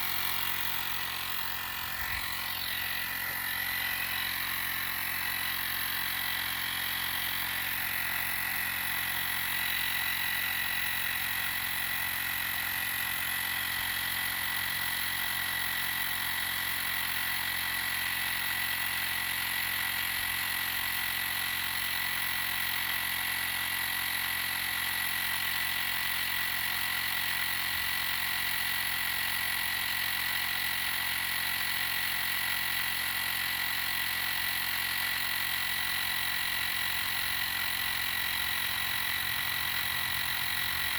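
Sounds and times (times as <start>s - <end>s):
air compressor whining: 0.0s - 40.9s.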